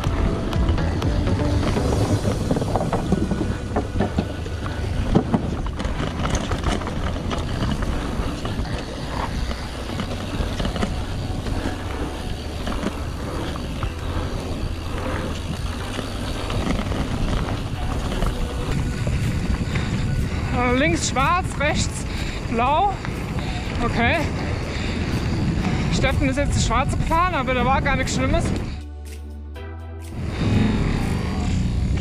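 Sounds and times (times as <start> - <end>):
bike tyres rolling on dirt: 0.0 - 28.8, 30.2 - 32.0
wind rumble on microphone: 0.0 - 28.8, 30.1 - 32.0
bike clicks and rattles: 0.0 - 29.2, 30.1 - 32.0.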